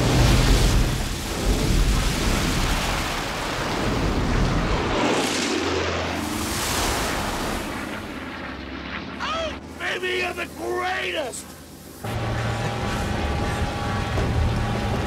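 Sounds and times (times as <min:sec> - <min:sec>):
propeller plane engines: 0:00.0 - 0:15.0
plane passing whoosh: 0:02.0 - 0:15.0.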